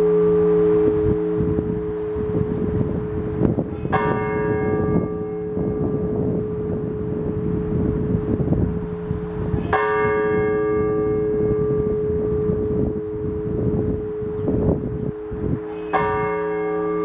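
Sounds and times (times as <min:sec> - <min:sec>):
large church bell ringing: 0:00.0 - 0:17.0
wind gusts on microphone: 0:00.0 - 0:17.0.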